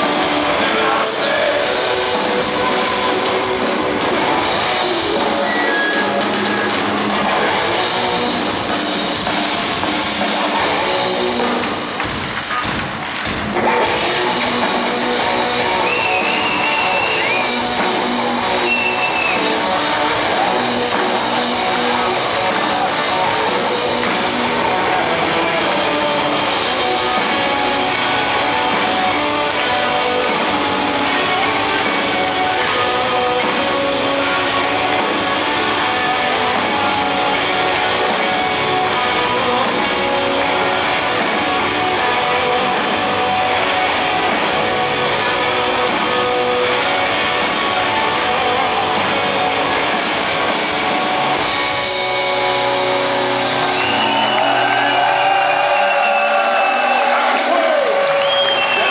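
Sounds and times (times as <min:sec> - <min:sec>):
live rock band playing: 0:00.0 - 0:58.9.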